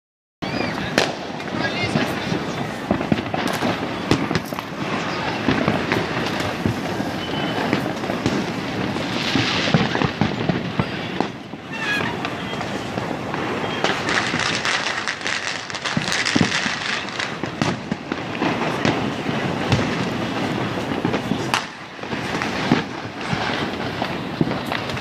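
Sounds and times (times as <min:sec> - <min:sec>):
firecrackers and fireworks crackling: 0:00.4 - 0:25.0.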